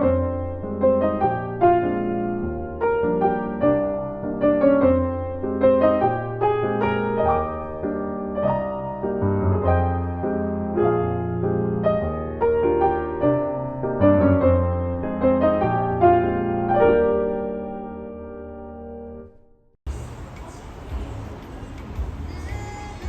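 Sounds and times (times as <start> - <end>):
gentle solo piano: 0.0 - 19.6.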